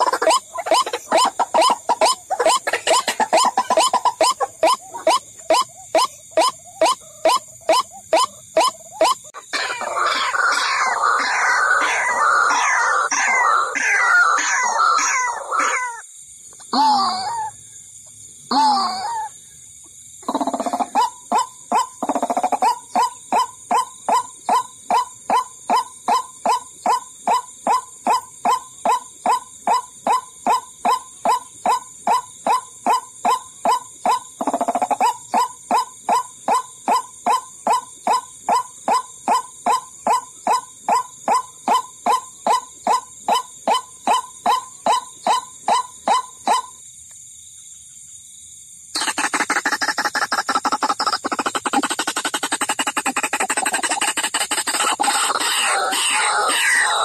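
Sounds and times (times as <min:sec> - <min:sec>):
waterhen calls: 0:00.0 - 0:16.0, 0:20.2 - 0:46.7, 0:49.0 - 0:57.0.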